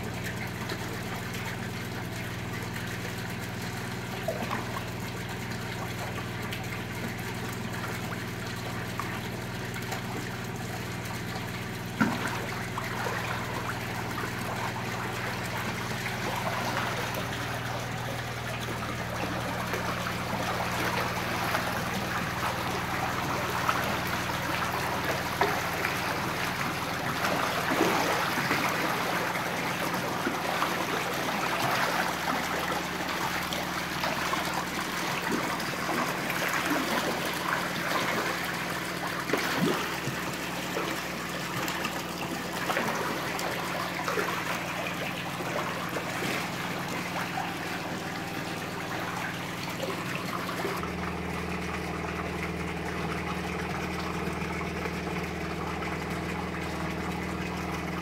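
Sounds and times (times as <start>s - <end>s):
steady low hum: 0.0s - 58.0s
water splashing in a pond: 0.0s - 58.0s.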